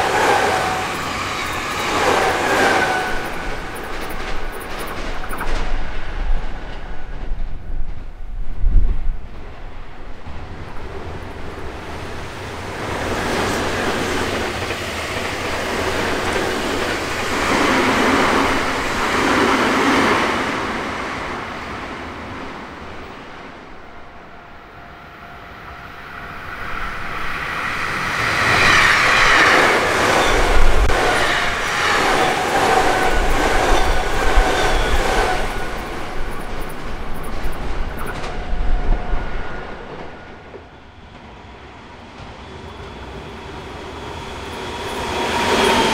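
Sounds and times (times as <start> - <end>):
electric train passing: 0.0 - 45.9.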